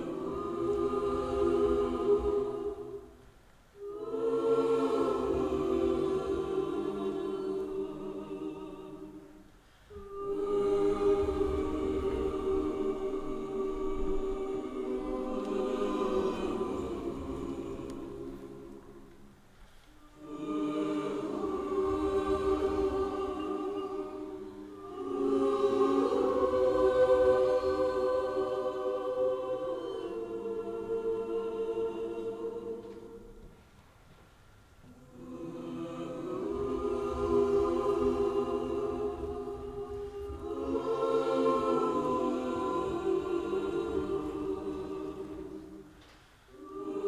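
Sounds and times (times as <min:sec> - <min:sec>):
voices singing chords: 0:00.0 - 0:33.8, 0:34.6 - 0:47.0.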